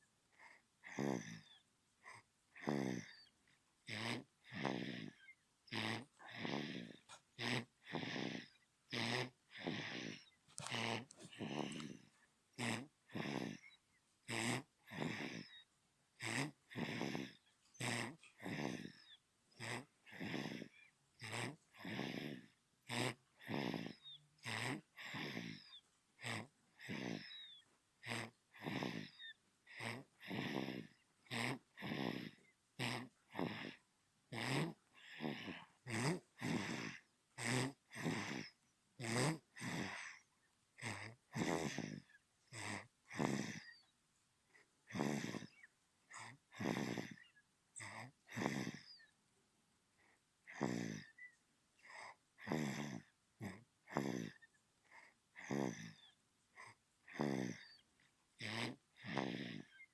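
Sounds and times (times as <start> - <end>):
baby snoring: 0.3 - 43.9, 44.6 - 49.1, 50.0 - 59.9.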